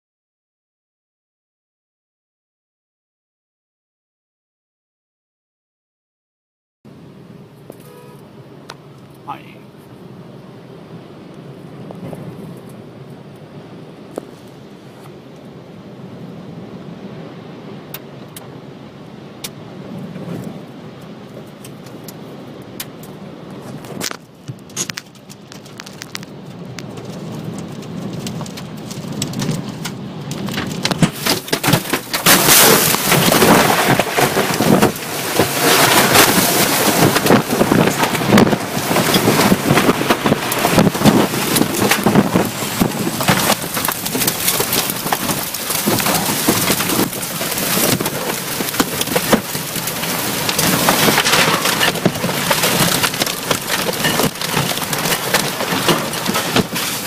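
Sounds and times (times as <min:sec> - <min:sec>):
rain on car windshield and roof: 0:07.5 - 0:57.0.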